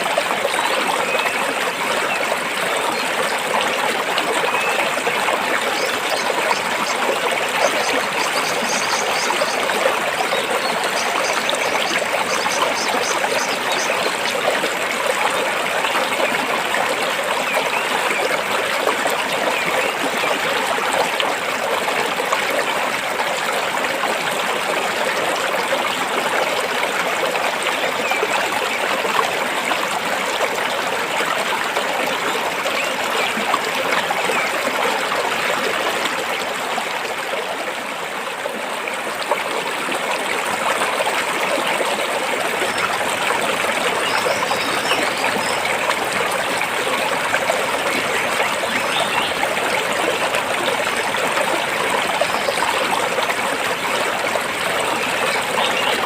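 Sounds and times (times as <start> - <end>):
stream water over rocks: 0.0 - 56.0.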